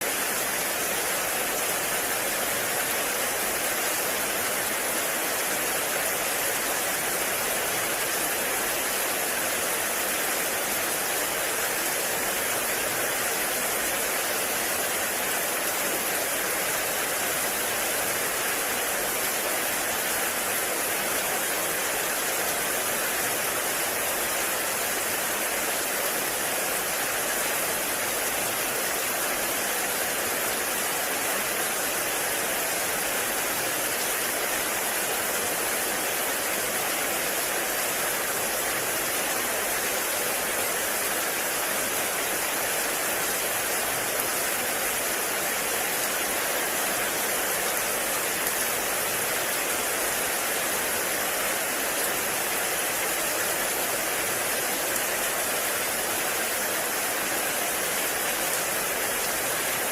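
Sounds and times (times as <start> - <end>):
heavy rain in a forest: 0.0 - 59.9.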